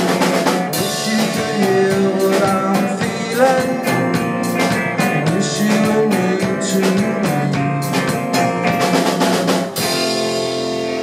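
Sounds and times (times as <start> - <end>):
acoustic and electric guitars: 0.0 - 11.0
drum kit pounding: 0.0 - 11.0.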